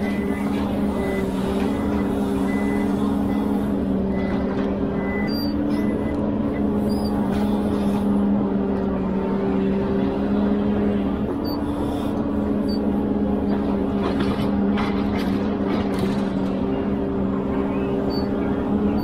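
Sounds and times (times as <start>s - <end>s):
forestry machine engine and hydraulics: 0.0s - 19.0s.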